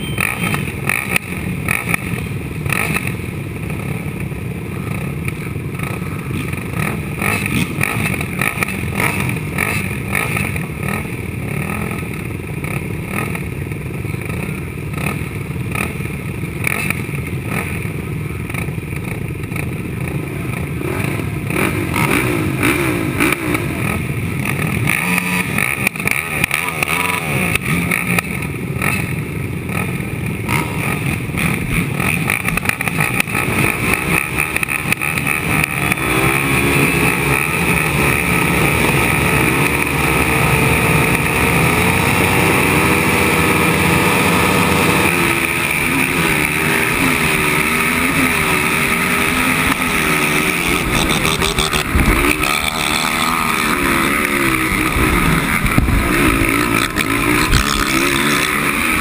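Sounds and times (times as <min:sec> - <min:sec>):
quad engines idling and revving: 0:00.0 - 0:59.0.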